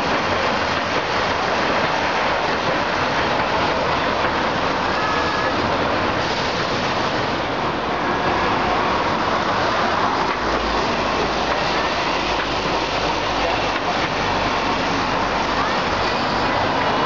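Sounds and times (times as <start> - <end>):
road traffic passing: 0.0 - 17.0
streetcar rumbling on rails: 0.0 - 17.0.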